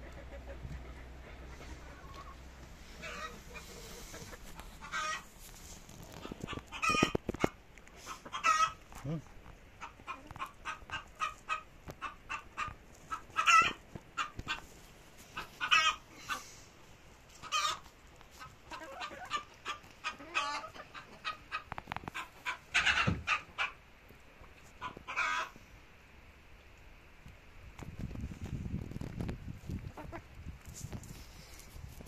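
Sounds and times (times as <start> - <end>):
chickens clucking: 0.0 - 25.6, 28.9 - 30.4.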